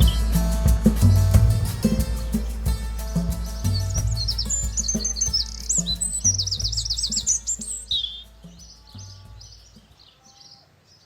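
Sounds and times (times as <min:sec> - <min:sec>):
background music with bass line: 0:00.0 - 0:09.8
small birds chirping: 0:00.0 - 0:11.0.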